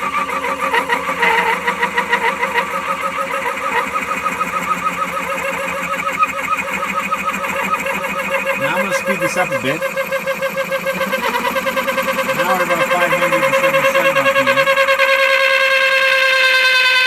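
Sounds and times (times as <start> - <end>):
wavering squeak: 0.0 - 17.0
wood lathe running: 0.0 - 17.0.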